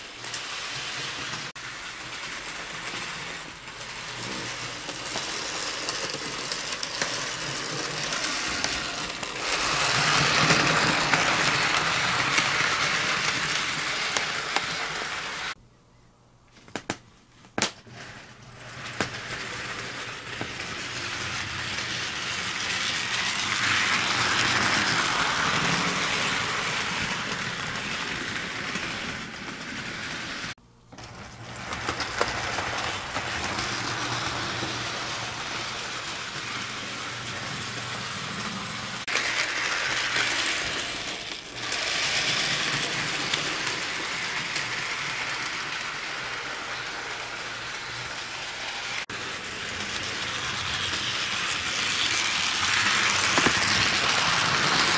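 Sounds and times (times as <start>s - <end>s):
model train whirring on rails: 0.0s - 15.6s, 17.9s - 54.9s.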